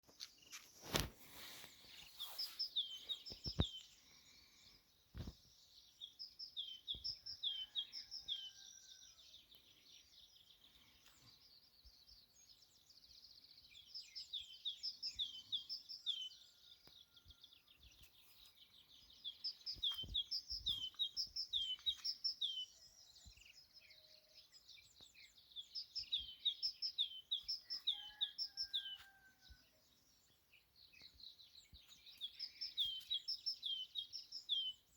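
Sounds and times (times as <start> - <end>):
songbirds calling: 0.1 - 34.9.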